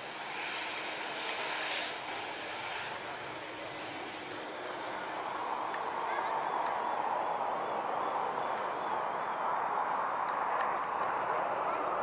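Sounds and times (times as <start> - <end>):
jet engines hissing and rumbling: 0.0 - 12.0.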